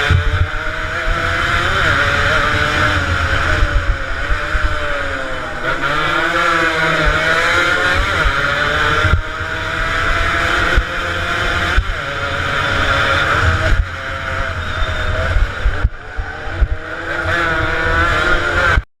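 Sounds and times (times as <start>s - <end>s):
motorcycle engines revving: 0.0s - 18.9s.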